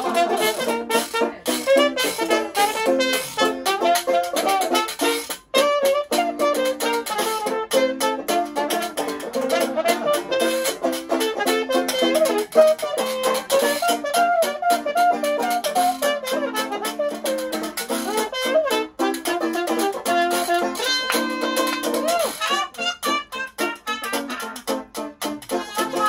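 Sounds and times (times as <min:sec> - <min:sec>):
acoustic jazz band playing: 0:00.0 - 0:26.0
strummed guitar: 0:00.0 - 0:26.0
trumpet melody: 0:00.0 - 0:26.0.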